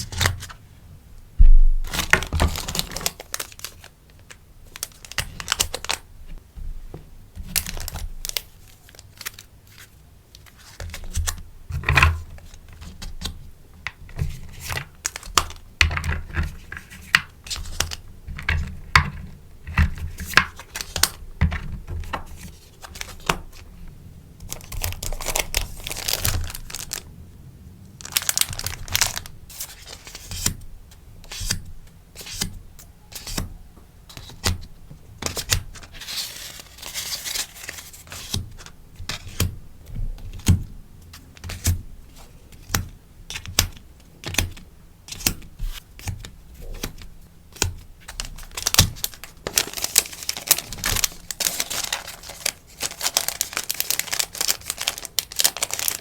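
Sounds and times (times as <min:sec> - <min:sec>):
plastic and paper crinkling: 0:01.7 - 0:06.4, 0:07.4 - 0:27.1, 0:28.0 - 0:30.6, 0:32.2 - 0:56.0.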